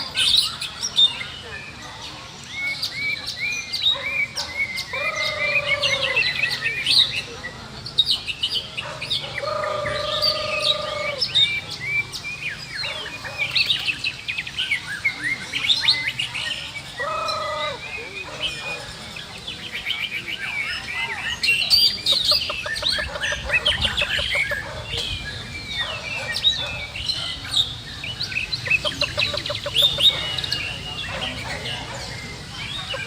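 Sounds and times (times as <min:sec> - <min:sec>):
birds singing chirps and trills: 0:00.0 - 0:33.0.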